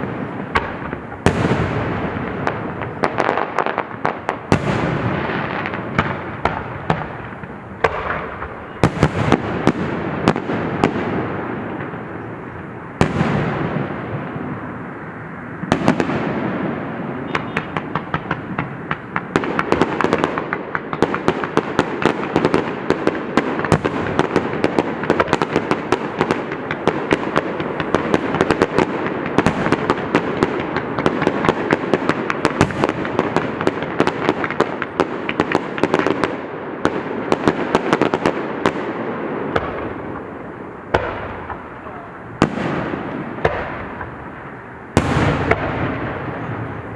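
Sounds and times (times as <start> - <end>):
fireworks crackling: 0.0 - 46.9
fireworks sharp bangs: 0.0 - 46.9.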